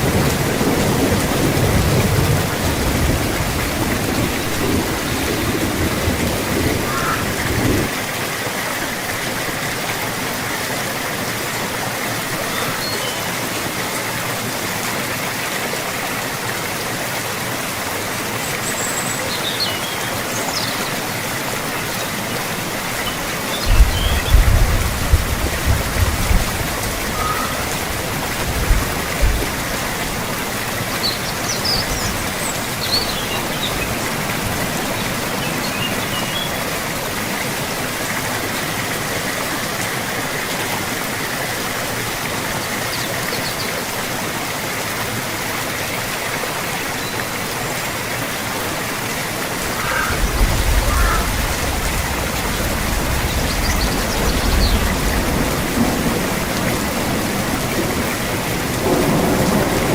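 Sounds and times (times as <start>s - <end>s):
running water: 0.0s - 59.9s
steady rain: 0.0s - 59.9s.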